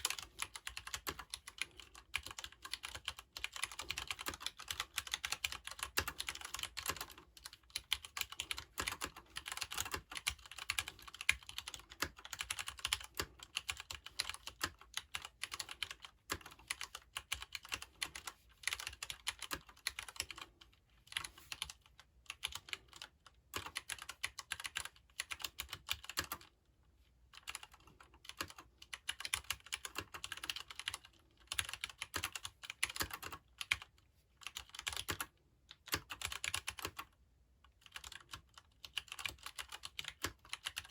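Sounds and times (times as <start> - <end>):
mechanical keyboard typing: 0.0 - 26.6, 27.3 - 40.9.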